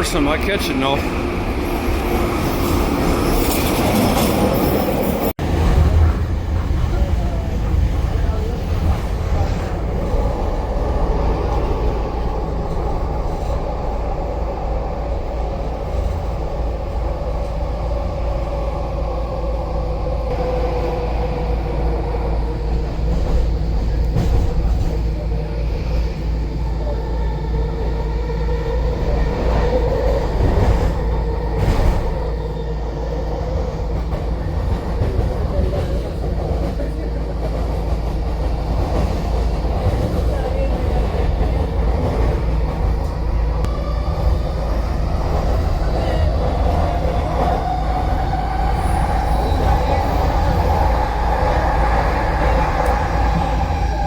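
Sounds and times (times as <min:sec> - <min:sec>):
train rumbling on guideway: 0:00.0 - 0:54.0.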